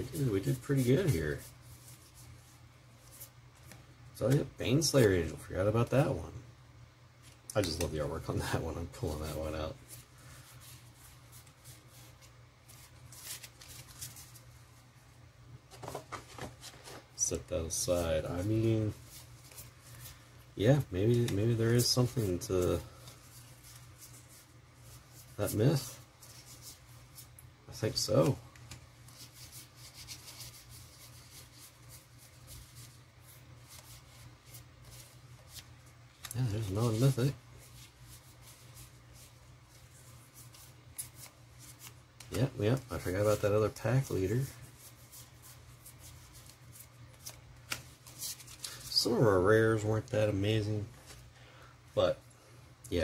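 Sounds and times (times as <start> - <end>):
cards rustling and swishing: 0.0 - 4.5, 8.5 - 14.6, 15.7 - 49.4
low steady hum: 0.0 - 53.0.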